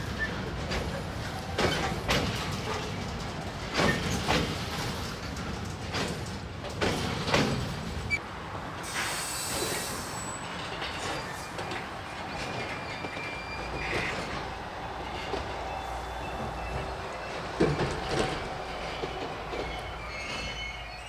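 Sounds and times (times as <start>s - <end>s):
freight wagons rumbling: 0.0s - 21.0s
wheels clacking over rail joints: 0.0s - 21.0s.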